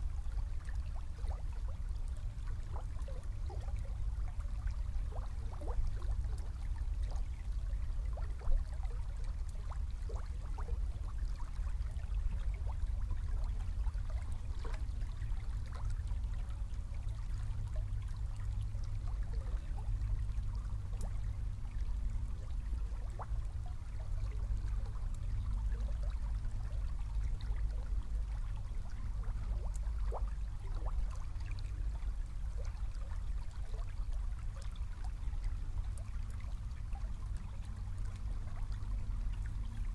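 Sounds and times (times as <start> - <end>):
low steady rumble: 0.0 - 39.9
river water gurgling: 0.0 - 39.9.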